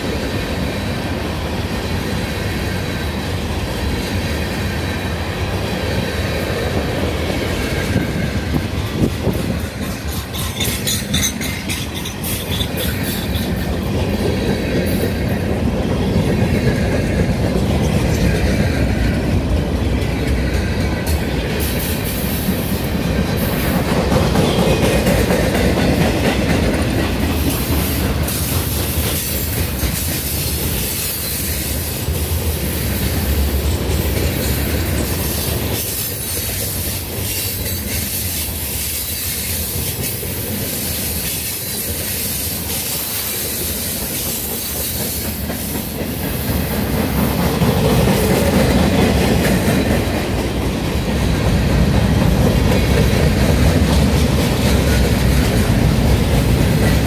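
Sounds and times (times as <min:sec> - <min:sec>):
train wheels rumbling and clattering: 0:00.0 - 0:57.0.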